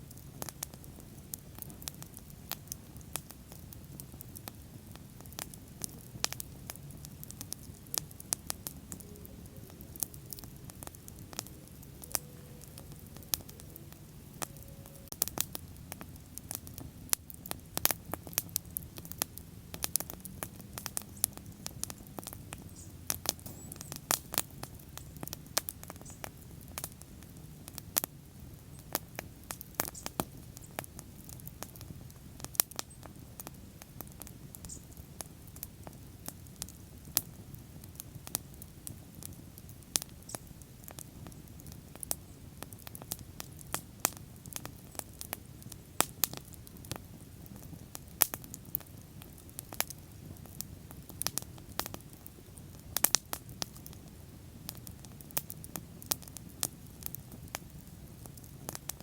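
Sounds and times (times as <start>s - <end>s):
bonfire crackles and pops: 0.0s - 59.0s
low rumble of flame: 0.0s - 59.0s.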